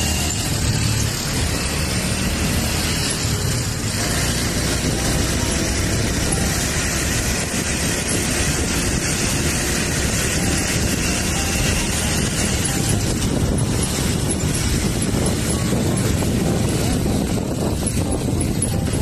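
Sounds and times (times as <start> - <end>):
vehicle engine rumble: 0.0 - 19.0
wind and road noise: 0.0 - 19.0.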